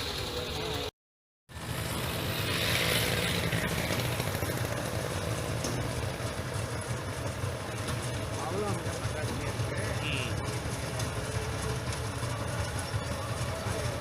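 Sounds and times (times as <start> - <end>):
harvester engine rumbling: 0.0 - 0.9, 1.5 - 14.0.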